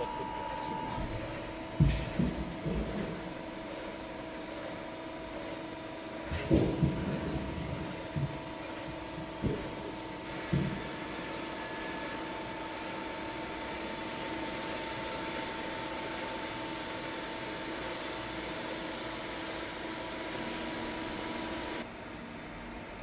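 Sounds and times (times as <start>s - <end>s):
hydraulic press pump humming: 0.0s - 21.8s.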